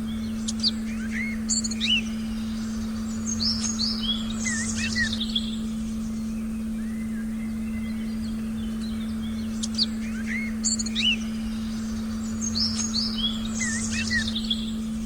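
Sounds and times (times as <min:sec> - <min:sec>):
birds chirping and calling: 0:00.1 - 0:15.0.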